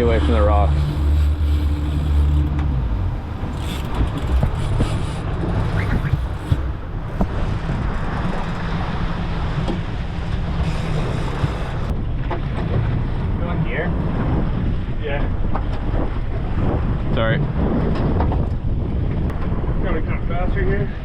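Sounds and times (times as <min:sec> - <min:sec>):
boat motor humming: 0:00.0 - 0:19.8
water noise: 0:00.0 - 0:21.0
wind on microphone: 0:00.0 - 0:21.0.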